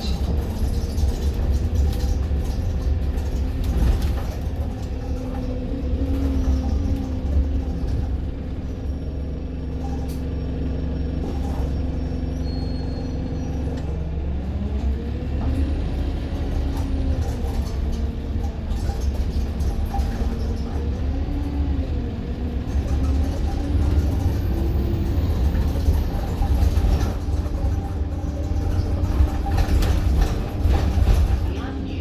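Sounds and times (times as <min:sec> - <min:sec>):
bus engine and road rumble: 0:00.0 - 0:32.0.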